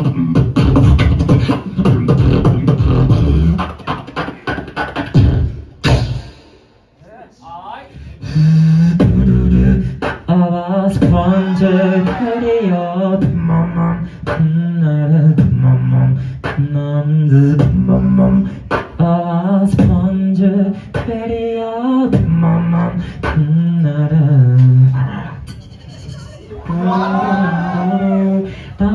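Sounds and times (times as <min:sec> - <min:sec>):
beatboxing through speakers: 0:00.0 - 0:07.0, 0:07.8 - 0:28.9.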